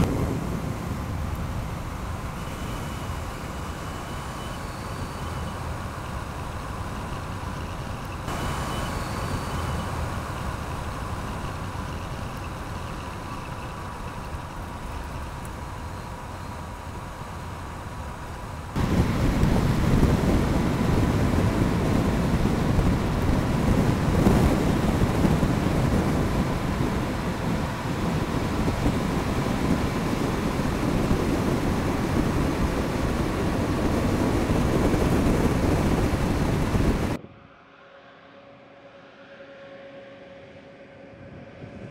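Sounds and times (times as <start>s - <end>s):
tyres rumbling on road: 0.0s - 37.2s
wind noise: 0.0s - 37.5s, 40.9s - 41.9s.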